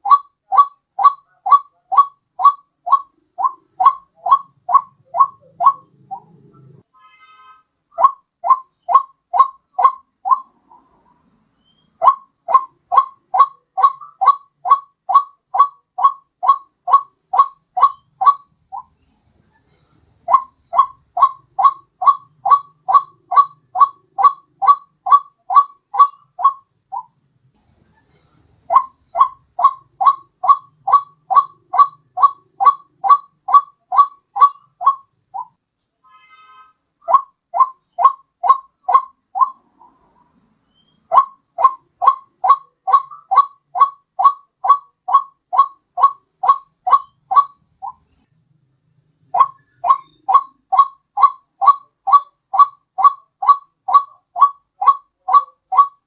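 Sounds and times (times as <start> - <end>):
waterhen calls: 0.0 - 6.8, 7.9 - 19.1, 20.2 - 27.2, 28.7 - 48.2, 49.3 - 56.0.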